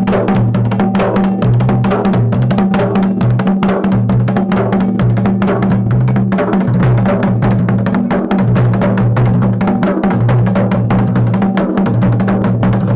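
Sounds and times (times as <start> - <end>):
drums playing fast rhythm: 0.0 - 12.9.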